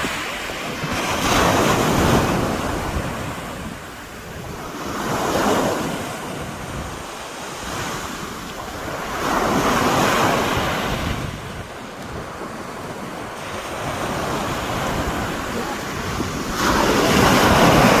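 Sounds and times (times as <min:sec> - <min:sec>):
waves surging and breaking: 0:00.0 - 0:18.0
wind buffeting microphone: 0:00.0 - 0:18.0.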